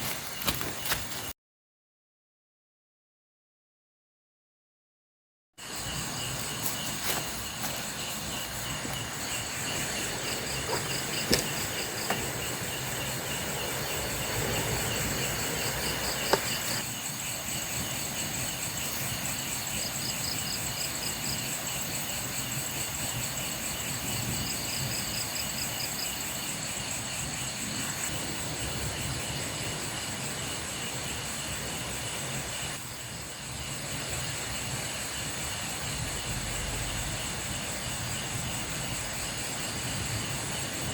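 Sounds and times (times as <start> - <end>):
crickets trilling: 0.0 - 1.3, 5.6 - 40.9
pulsing insect chirps: 5.6 - 40.9.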